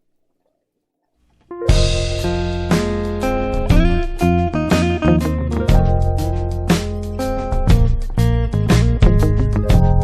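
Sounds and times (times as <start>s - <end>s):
guitar-led music with beat: 1.5s - 10.0s.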